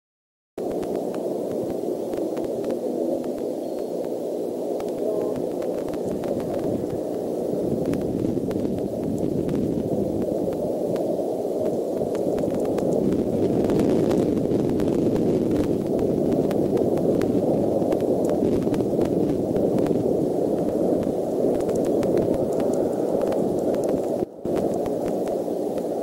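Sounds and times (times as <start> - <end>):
faint clicks: 0.6 - 26.0
low rushing noise: 0.6 - 26.0.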